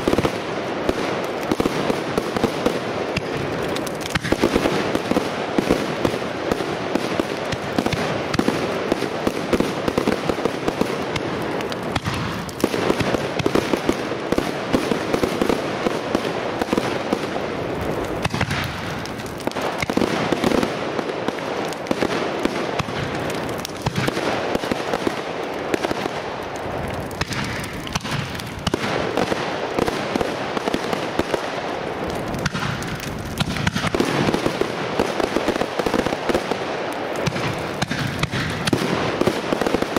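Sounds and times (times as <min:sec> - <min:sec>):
firework crackle: 0:00.0 - 0:39.9.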